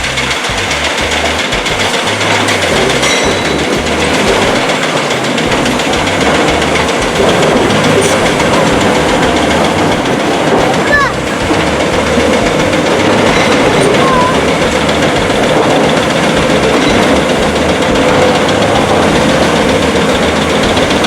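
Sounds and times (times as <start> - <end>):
diesel machinery rumbling: 0.0 - 21.0.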